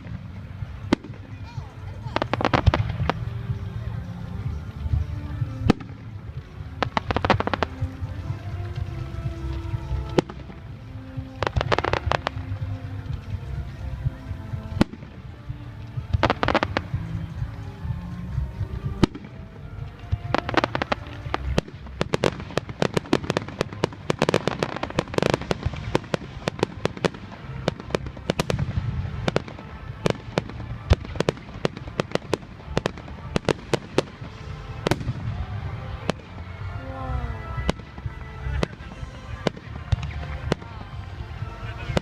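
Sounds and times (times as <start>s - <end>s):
fireworks bangs and cracks: 0.0s - 42.0s.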